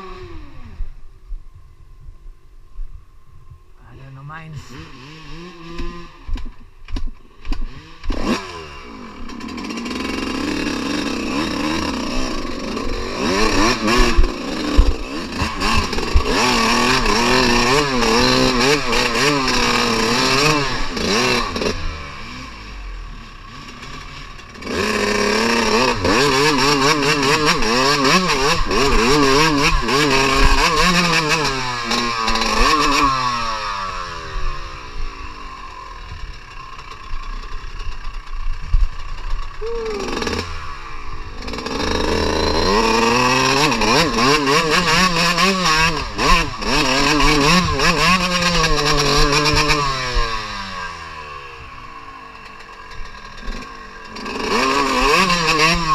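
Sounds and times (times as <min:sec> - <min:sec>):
dirt bike engine revving: 0:00.0 - 0:01.0, 0:03.8 - 0:55.9.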